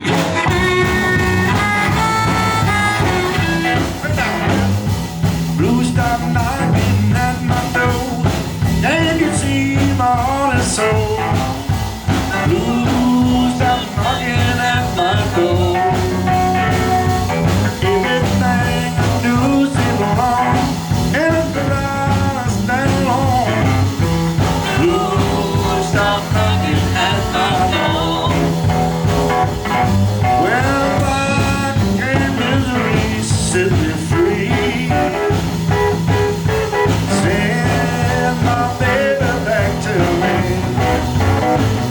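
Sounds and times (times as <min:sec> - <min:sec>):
live blues band playing: 0:00.0 - 0:41.9
repeating bass line: 0:00.0 - 0:41.9.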